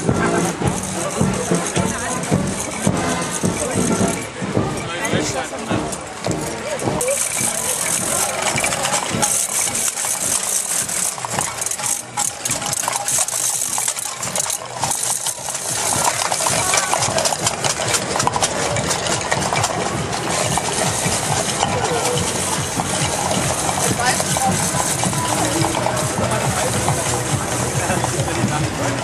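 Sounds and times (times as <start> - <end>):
metallic jingling and rattling: 0.0 - 29.0
noisy crowd din: 0.0 - 29.0.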